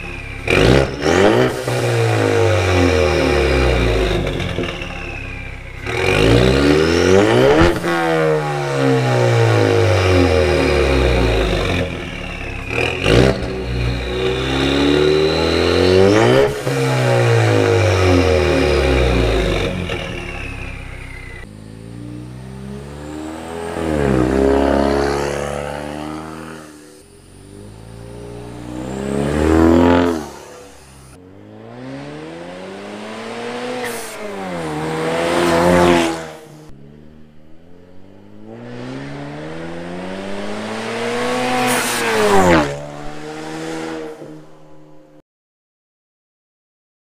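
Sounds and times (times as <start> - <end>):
car engine revving: 0.0 - 45.2
car passing at full throttle: 0.0 - 45.2.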